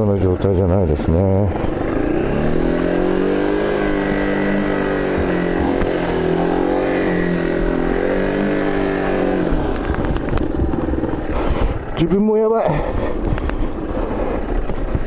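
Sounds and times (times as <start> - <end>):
engine running at high revs: 0.0 - 15.0.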